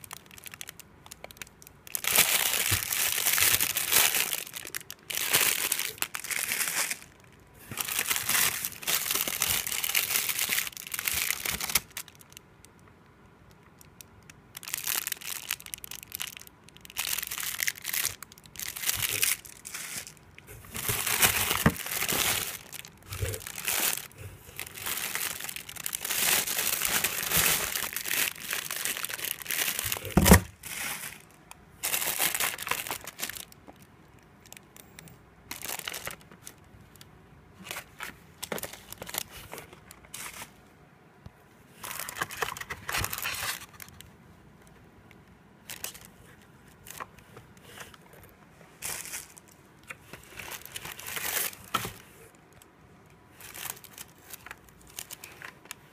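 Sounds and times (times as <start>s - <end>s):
plastic bags crinkling: 0.0s - 12.4s, 13.8s - 40.6s, 41.8s - 44.1s, 45.6s - 52.2s, 53.4s - 55.9s.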